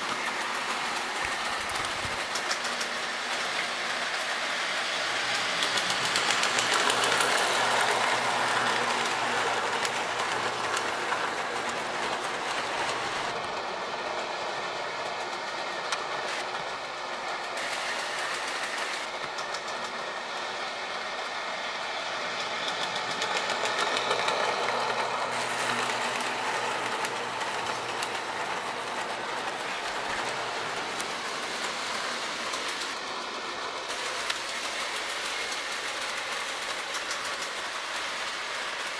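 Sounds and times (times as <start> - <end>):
toy train wheels rattling on rails: 0.0 - 38.9.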